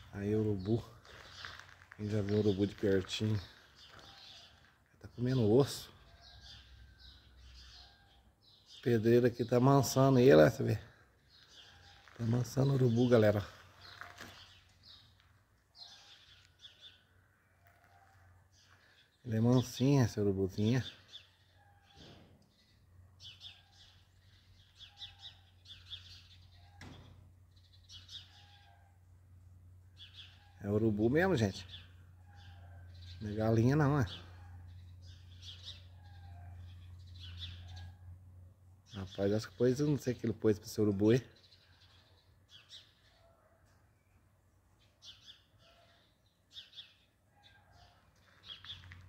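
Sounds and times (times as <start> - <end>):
small songbirds chirping: 0.0 - 49.0.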